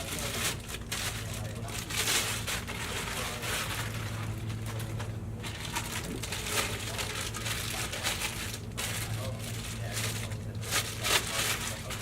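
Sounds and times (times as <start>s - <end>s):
plastic packaging crinkling: 0.0s - 12.0s
steady low hum: 0.0s - 12.0s.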